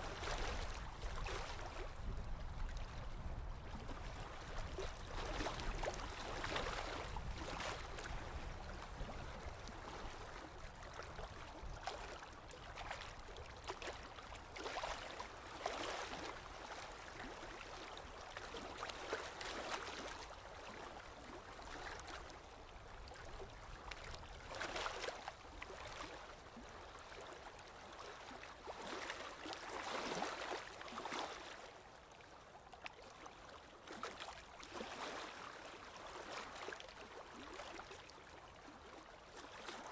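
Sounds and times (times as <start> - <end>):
water splashing and gurgling: 0.0 - 31.7, 33.9 - 39.9.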